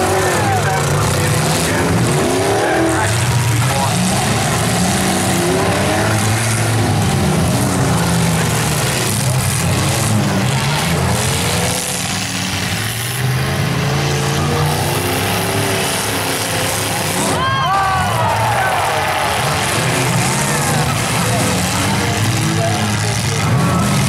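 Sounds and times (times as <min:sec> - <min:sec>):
car engines revving: 0:00.0 - 0:24.0
crowd noise: 0:00.0 - 0:24.0.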